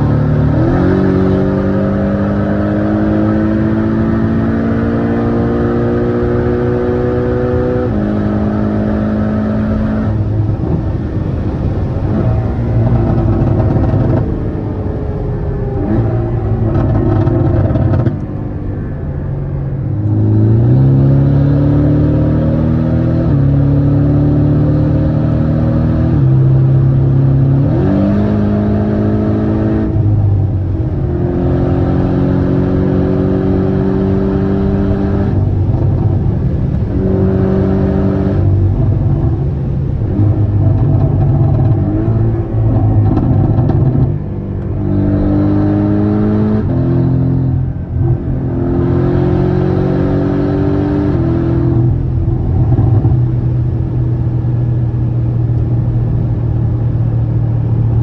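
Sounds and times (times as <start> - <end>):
car engine revving: 0.0 - 58.0
steady low drone: 5.5 - 58.0.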